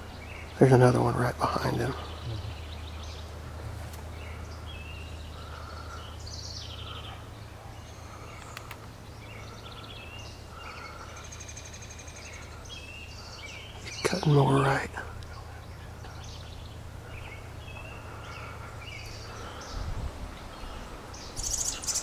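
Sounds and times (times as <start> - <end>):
birds chirping and trilling: 0.0 - 22.0
steady low hum: 0.0 - 22.0.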